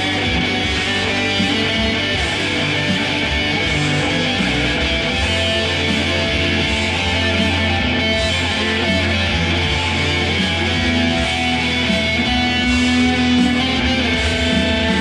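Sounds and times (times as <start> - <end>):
electric guitar through amplifier: 0.0 - 15.0.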